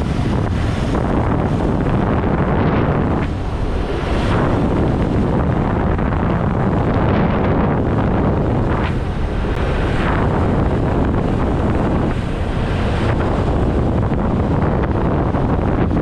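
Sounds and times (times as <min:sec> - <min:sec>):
road and traffic noise: 0:00.0 - 0:15.8
wind buffeting microphone: 0:00.0 - 0:16.0.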